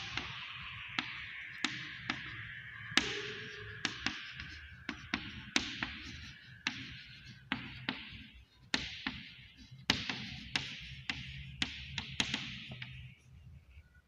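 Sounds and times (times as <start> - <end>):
chalk tapping and scraping on chalkboard: 0.0 - 13.2.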